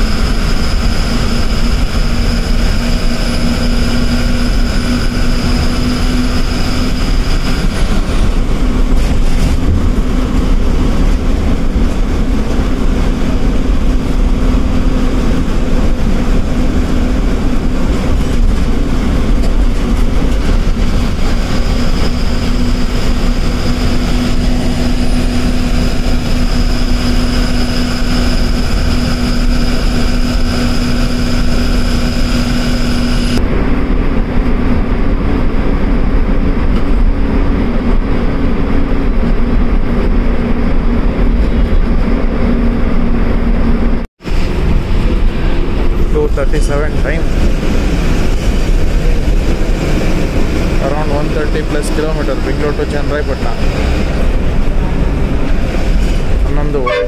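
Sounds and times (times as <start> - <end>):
bus engine drone: 0.0 - 57.0
high whine: 0.0 - 57.0
road noise: 0.0 - 57.0.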